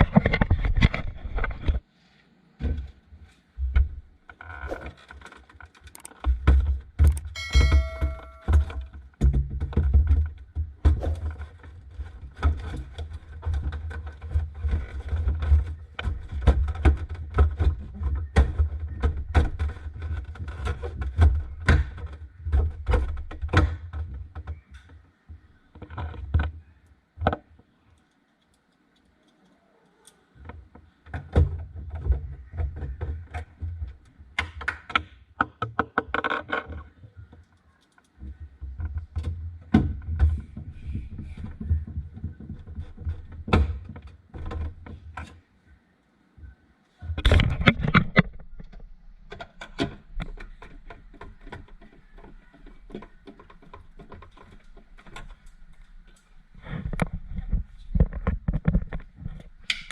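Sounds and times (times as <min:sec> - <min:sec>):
clicks and knocks of handling: 0:00.0 - 0:01.8, 0:03.6 - 0:45.5, 0:47.0 - 0:59.9.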